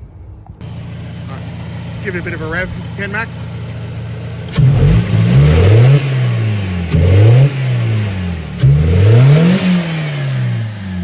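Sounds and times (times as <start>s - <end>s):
car engine revving: 0.6s - 11.0s
loud intake noise: 0.6s - 11.0s.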